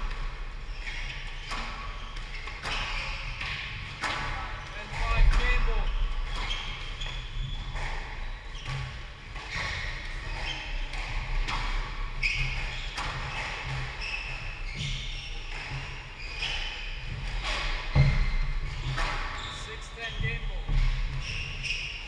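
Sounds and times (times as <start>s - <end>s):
shoes squeaking on hardwood floor: 0.7s - 22.0s
squash ball bouncing: 1.4s - 19.5s.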